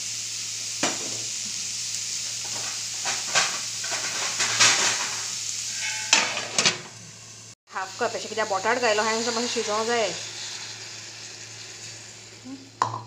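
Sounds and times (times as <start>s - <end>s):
food sizzling in a metal pan: 0.0s - 13.0s
pops in frying food: 0.0s - 13.0s.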